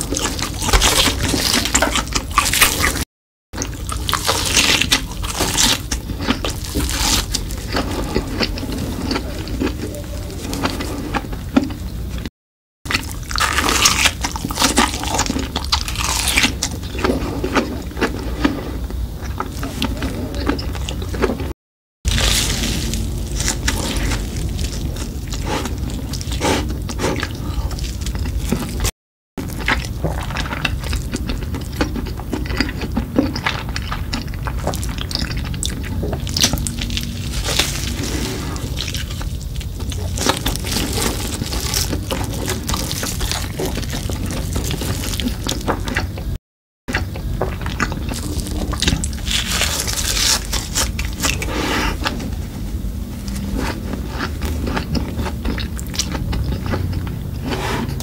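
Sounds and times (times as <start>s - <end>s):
chewing with wet squishing: 3.6s - 12.3s, 12.9s - 21.5s, 22.1s - 58.0s.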